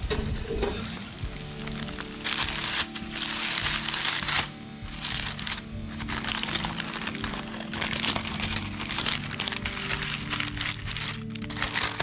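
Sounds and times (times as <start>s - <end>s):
background music: 0.0s - 12.0s
parchment paper crinkling: 1.6s - 12.0s.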